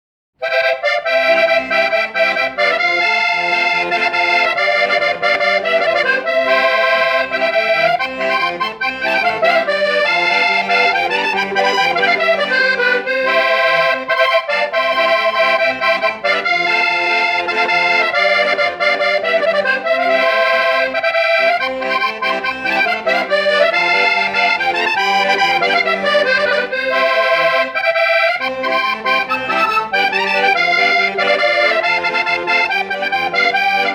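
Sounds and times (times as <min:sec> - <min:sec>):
accordion folk melody: 0:00.4 - 0:33.9.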